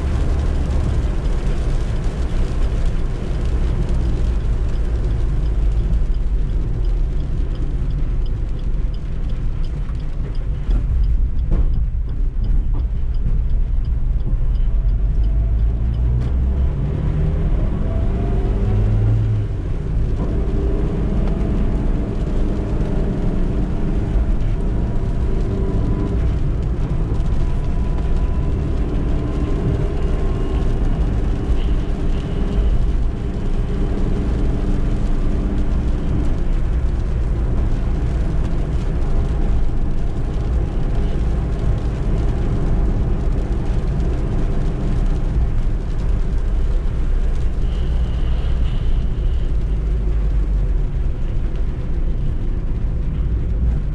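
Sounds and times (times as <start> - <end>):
low road rumble: 0.0 - 53.9.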